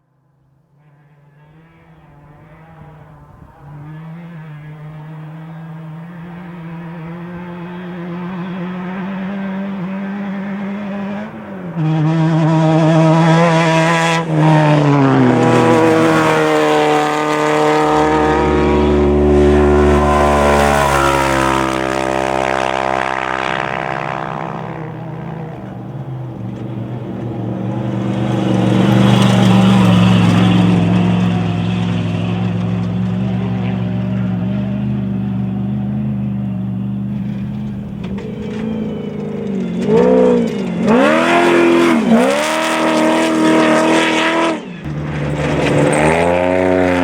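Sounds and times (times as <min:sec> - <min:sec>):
race vehicle engines passing by: 0:00.5 - 0:47.0.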